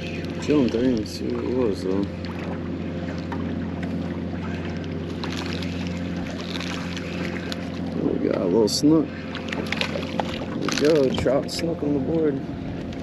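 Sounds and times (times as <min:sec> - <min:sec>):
boat motor humming: 0:00.0 - 0:13.0
water splashes: 0:00.0 - 0:13.0.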